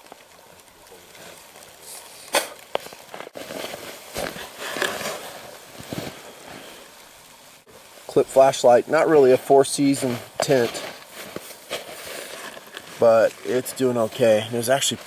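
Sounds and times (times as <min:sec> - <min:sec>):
footsteps crunching in snow: 0:00.9 - 0:07.2, 0:08.4 - 0:15.0.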